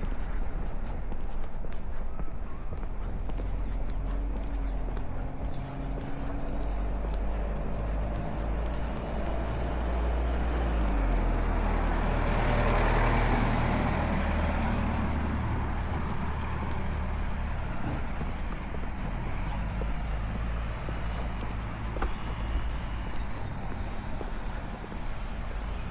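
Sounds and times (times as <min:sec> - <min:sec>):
road traffic rumbling: 0:00.0 - 0:25.9
vehicle passing by: 0:03.3 - 0:25.9.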